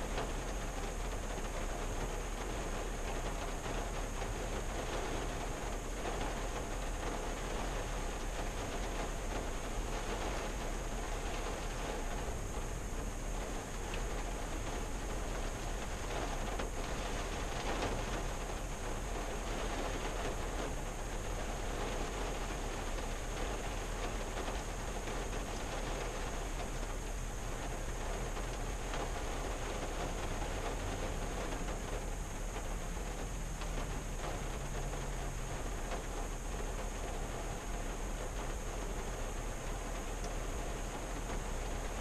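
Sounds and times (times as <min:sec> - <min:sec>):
rain on car windshield: 0:00.0 - 0:42.0.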